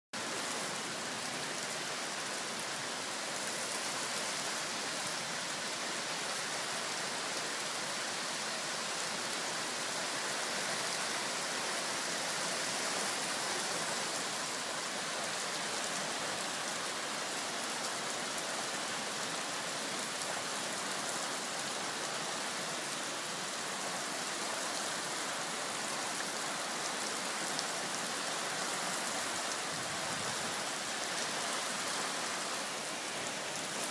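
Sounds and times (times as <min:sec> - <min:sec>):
rain falling on ground: 0:00.2 - 0:33.9.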